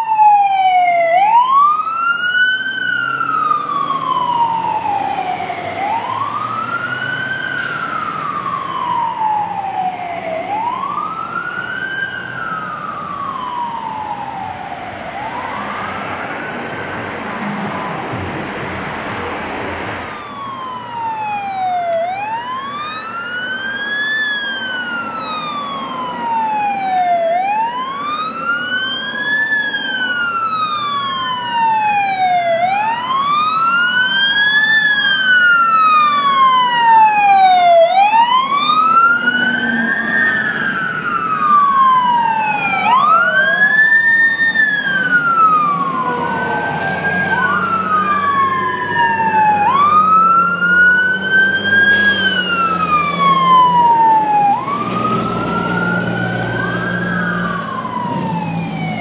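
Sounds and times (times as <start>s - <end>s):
fire truck sirens wailing: 0.0s - 59.0s.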